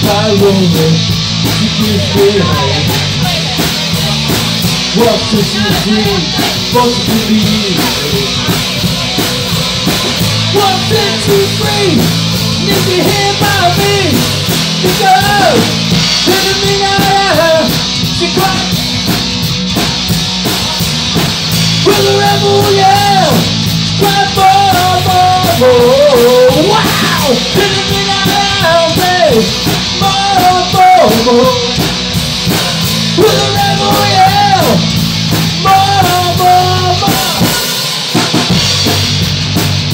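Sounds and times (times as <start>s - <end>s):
person singing: 0.0s - 19.2s, 20.5s - 37.9s
drum kit: 0.0s - 39.9s
electric guitars: 0.0s - 39.9s.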